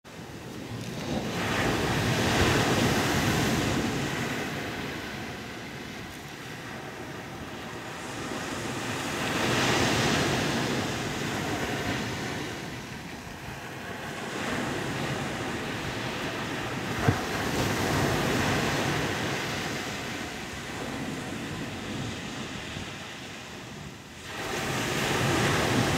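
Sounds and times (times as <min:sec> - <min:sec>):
surf breaking on beach: 0:00.1 - 0:25.9
wind noise on microphone: 0:00.1 - 0:25.9.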